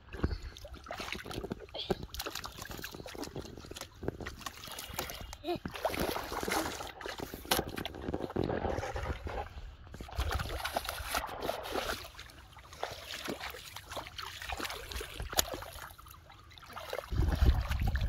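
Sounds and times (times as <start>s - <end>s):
muddy water splashing and sloshing: 0.0s - 18.0s.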